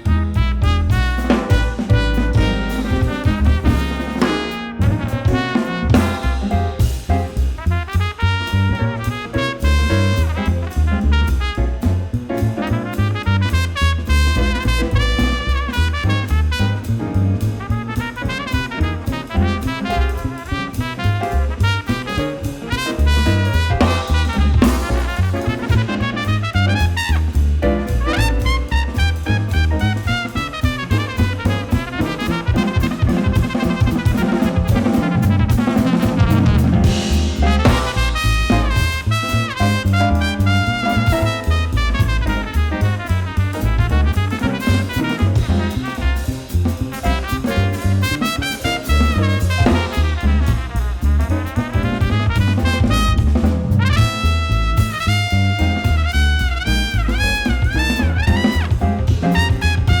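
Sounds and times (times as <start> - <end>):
drum kit: 0.0 - 60.0
low bass notes: 0.0 - 60.0.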